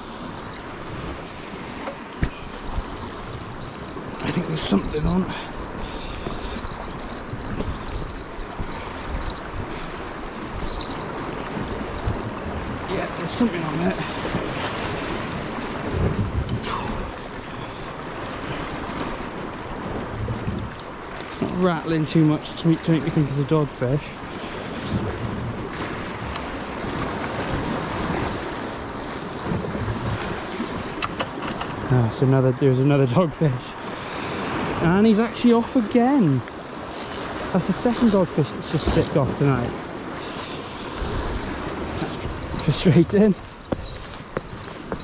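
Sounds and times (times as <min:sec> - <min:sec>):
wind rumbling on microphone: 0:00.0 - 0:32.6, 0:36.5 - 0:45.0
sea washing at shore: 0:00.0 - 0:45.0.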